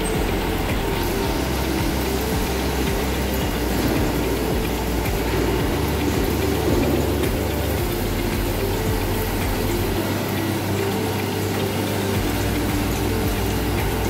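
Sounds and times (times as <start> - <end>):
machinery hum and rumble: 0.0 - 14.0.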